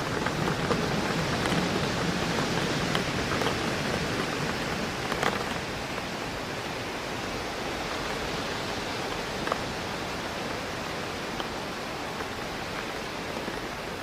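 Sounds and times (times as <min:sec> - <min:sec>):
rain on a window pane: 0:00.0 - 0:14.0
wind in trees: 0:00.0 - 0:14.0.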